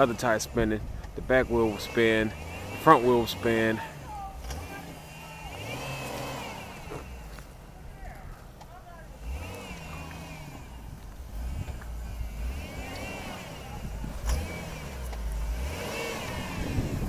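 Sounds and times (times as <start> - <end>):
tires spinning in snow: 0.0 - 17.0
vehicle engine revving: 0.0 - 17.0.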